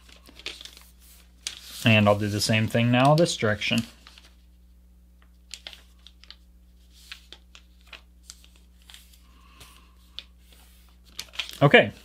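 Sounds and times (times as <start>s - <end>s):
paper rustling and crinkling: 0.0s - 4.6s, 5.2s - 12.0s
faint steady hum: 0.0s - 12.0s.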